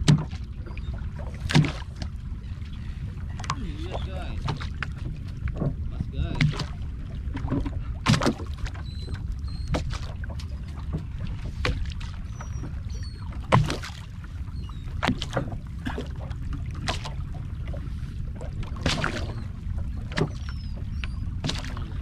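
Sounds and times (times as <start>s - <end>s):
water sloshing: 0.0s - 22.0s
wind rumble on microphone: 0.0s - 22.0s.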